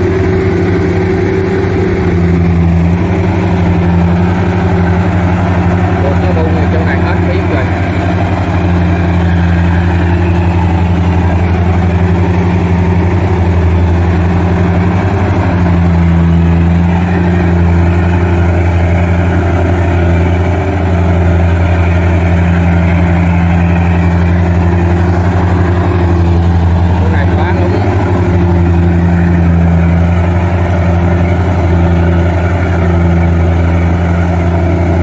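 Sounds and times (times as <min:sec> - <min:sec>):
harvester engine droning: 0:00.0 - 0:35.0.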